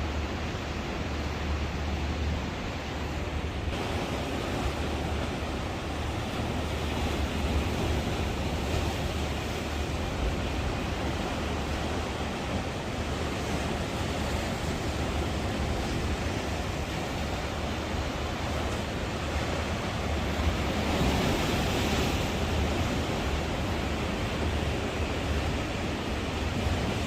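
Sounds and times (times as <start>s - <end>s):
low wind rumble on microphone: 0.0s - 27.0s
ocean surf breaking on beach: 0.0s - 27.0s.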